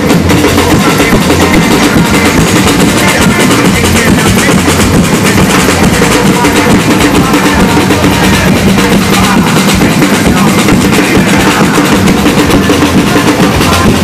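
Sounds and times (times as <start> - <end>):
deep bass drum beats: 0.0 - 14.0
samba percussion ensemble: 0.0 - 14.0.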